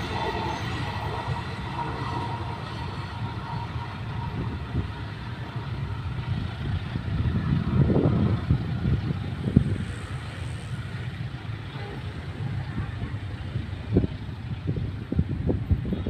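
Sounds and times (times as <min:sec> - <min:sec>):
train rumbling away: 0:00.0 - 0:16.0.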